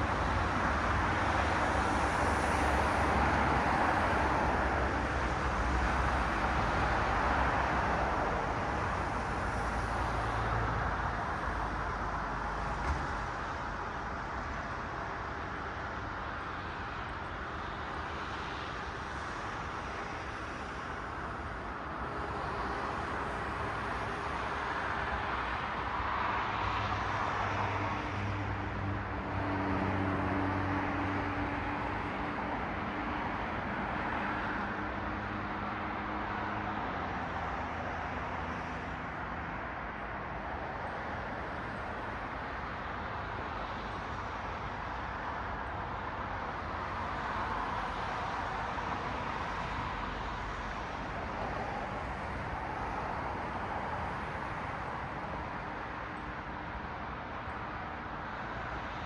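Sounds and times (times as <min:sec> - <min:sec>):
cars passing on a street: 0:00.0 - 0:59.0.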